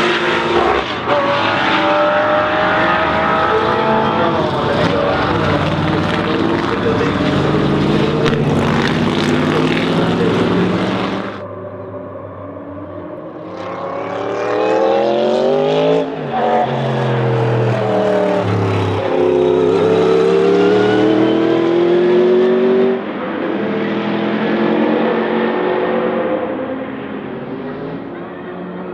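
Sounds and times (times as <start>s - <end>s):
racing car engine revving: 0.0s - 28.9s.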